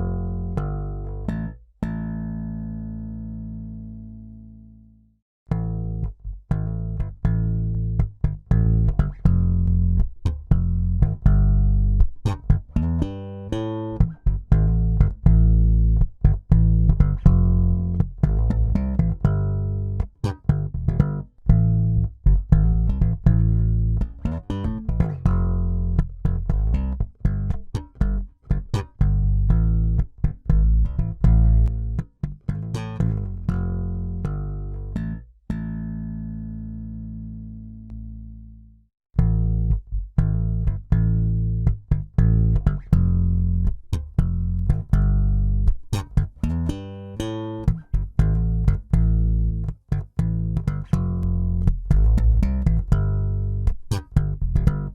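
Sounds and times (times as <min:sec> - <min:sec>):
electric bass guitar plucked notes: 0:00.0 - 0:54.9.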